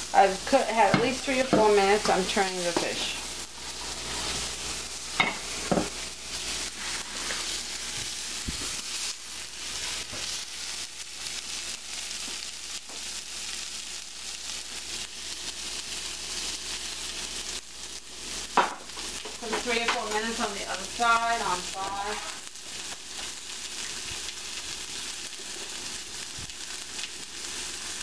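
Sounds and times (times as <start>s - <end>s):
fish fillets sizzling in a pan: 0.0s - 28.0s.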